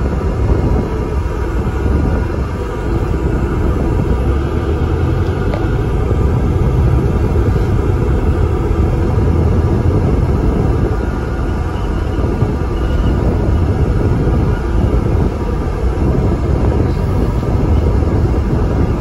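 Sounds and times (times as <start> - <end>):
diesel bus engine rumble: 0.0 - 19.0
road noise: 0.0 - 19.0.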